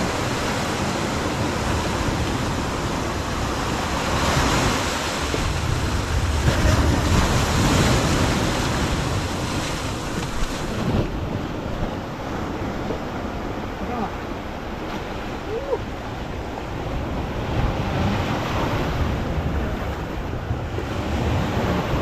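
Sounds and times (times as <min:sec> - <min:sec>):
waves: 0:00.0 - 0:22.0
wind buffeting microphone: 0:00.0 - 0:22.0.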